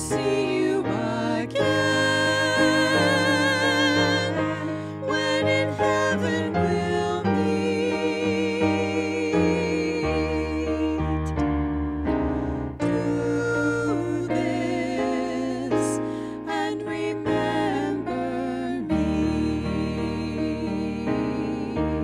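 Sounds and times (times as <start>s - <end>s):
women singing a duet: 0.0s - 11.4s, 12.8s - 22.0s.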